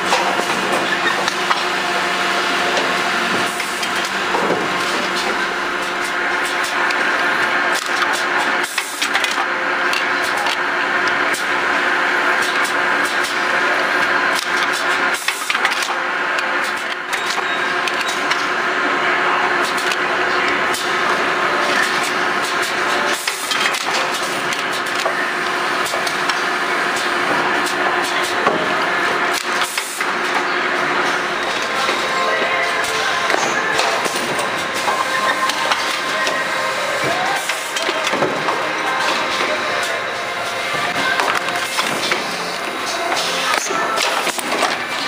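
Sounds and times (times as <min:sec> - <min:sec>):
machine humming with clicks: 0:00.0 - 0:18.6, 0:19.5 - 0:45.0.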